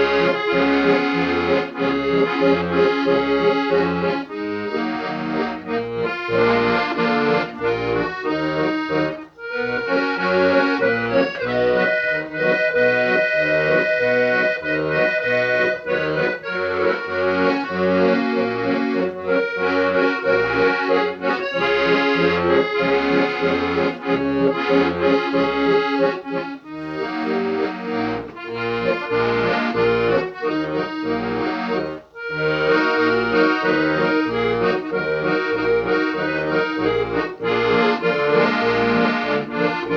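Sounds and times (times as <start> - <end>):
accordion melody: 0.0 - 39.9.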